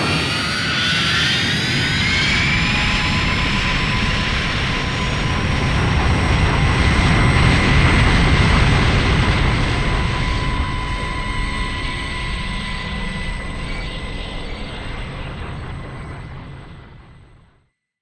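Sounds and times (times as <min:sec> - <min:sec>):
spaceship engine rumble: 0:00.0 - 0:17.6
thin steady whine: 0:01.6 - 0:17.6.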